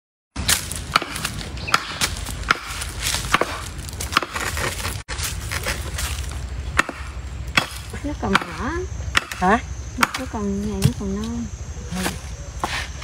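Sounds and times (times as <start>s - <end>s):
blade chopping bamboo: 0.4s - 11.0s.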